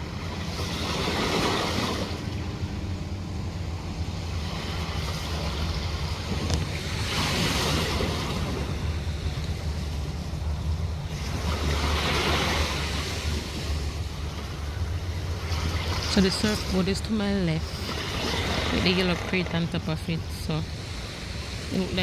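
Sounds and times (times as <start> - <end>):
ocean surf breaking: 0.0 - 22.0
wind rumbling on microphone: 0.0 - 22.0.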